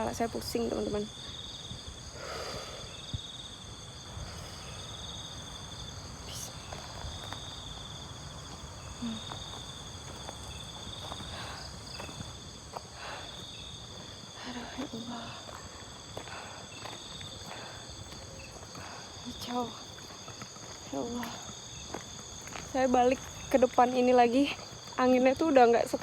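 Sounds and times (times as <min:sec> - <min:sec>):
night insects trilling: 0:00.0 - 0:26.0.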